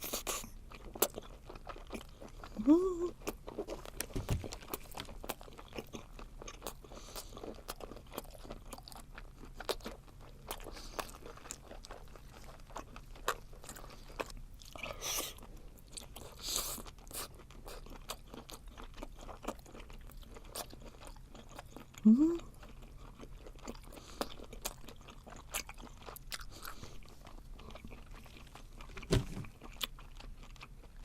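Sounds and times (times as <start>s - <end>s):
close-miked chewing: 0.0s - 31.0s.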